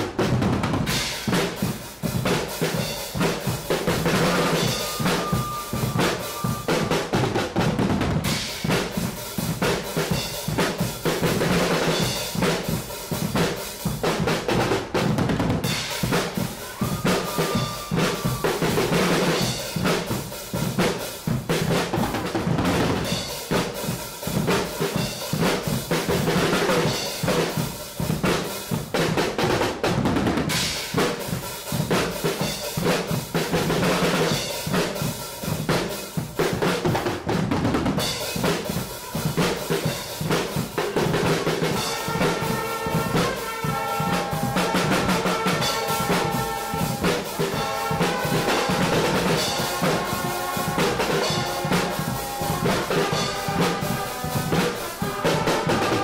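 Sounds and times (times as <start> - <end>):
drum section playing: 0.0 - 56.0.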